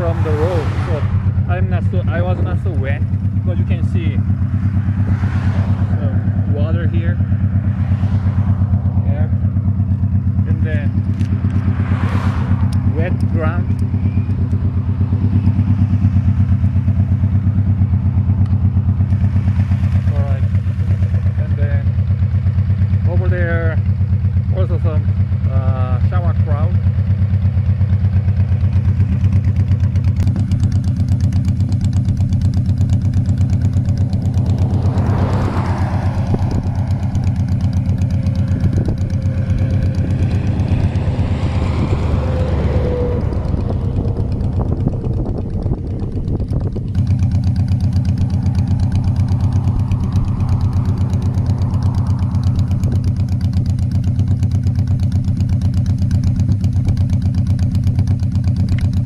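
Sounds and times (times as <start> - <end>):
vehicle passing on highway: 0.0 - 23.1, 26.9 - 59.0
motorcycle engine idling: 0.0 - 59.0.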